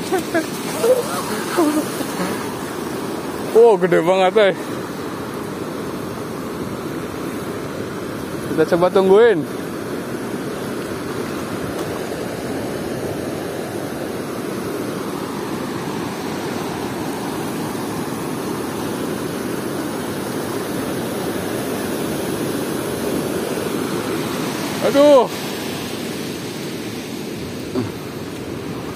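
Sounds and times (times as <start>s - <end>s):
ocean surf rushing: 0.0s - 28.9s
wave wash over sand: 0.0s - 28.9s.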